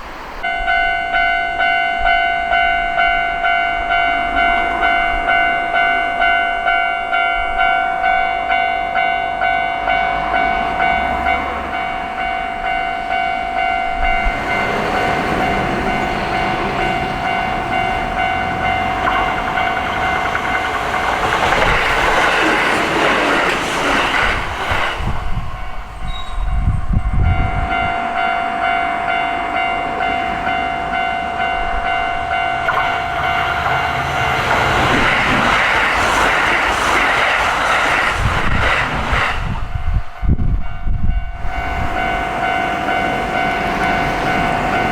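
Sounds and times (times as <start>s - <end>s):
train noise and wheel clatter: 0.0s - 44.9s.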